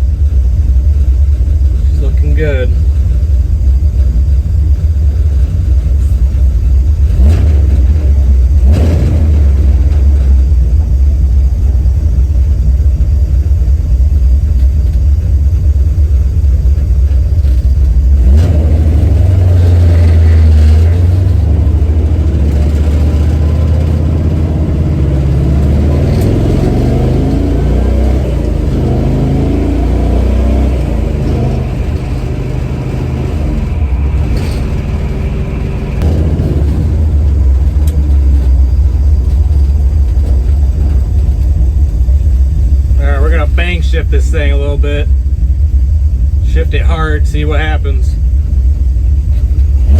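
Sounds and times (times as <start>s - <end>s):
car engine rumbling: 0.0s - 49.9s.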